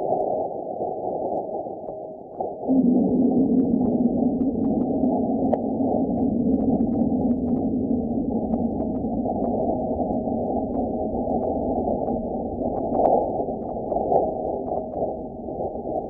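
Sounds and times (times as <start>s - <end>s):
muffled rushing noise: 0.0s - 16.0s.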